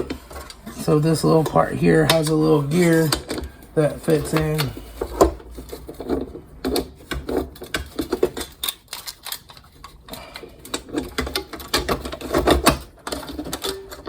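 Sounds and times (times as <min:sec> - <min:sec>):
metal parts clicking and knocking: 0:00.0 - 0:14.0.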